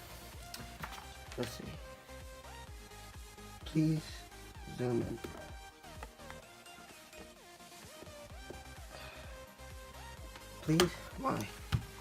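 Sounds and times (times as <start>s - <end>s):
electronic music with synth: 0.0s - 12.0s.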